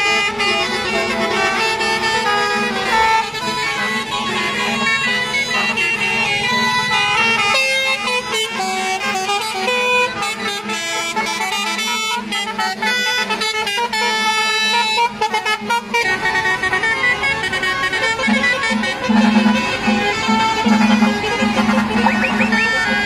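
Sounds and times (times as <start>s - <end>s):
musical air horns playing tune: 0.0s - 23.0s.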